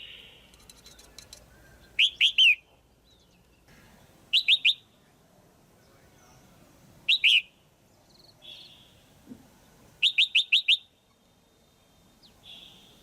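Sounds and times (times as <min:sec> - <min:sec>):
bird chirping: 0:00.0 - 0:05.2, 0:05.8 - 0:13.0.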